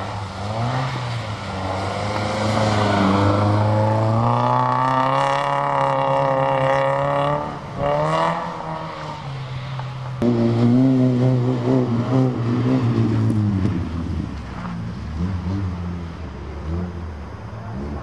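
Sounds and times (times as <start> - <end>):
car engine revving: 0.0 - 9.3, 10.1 - 18.0.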